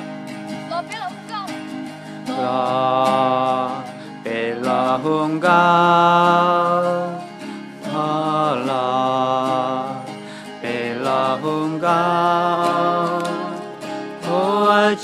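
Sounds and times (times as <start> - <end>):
acoustic guitars: 0.0 - 15.0
person singing slow song: 2.2 - 15.0.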